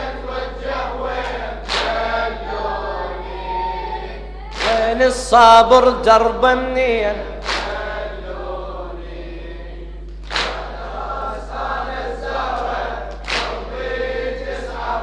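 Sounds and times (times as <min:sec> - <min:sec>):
collective chest-beating strikes: 0:00.0 - 0:05.1, 0:07.2 - 0:15.0
group chanting in unison: 0:00.0 - 0:06.2, 0:07.0 - 0:15.0.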